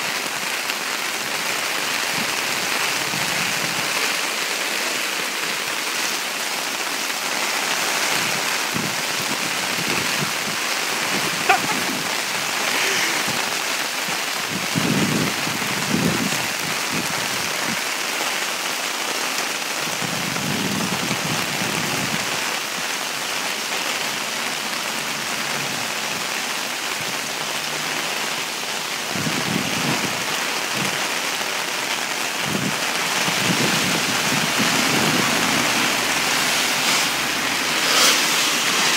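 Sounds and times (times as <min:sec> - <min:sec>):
heavy rain on street: 0:00.0 - 0:38.9.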